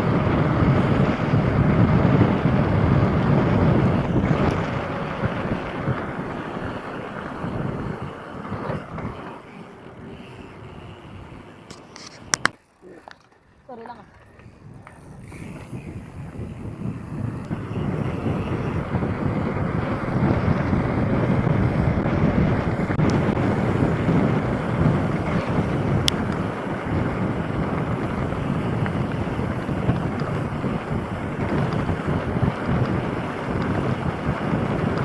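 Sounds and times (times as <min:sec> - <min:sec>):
wind rushing over microphone: 0:00.0 - 0:12.6, 0:14.2 - 0:35.0.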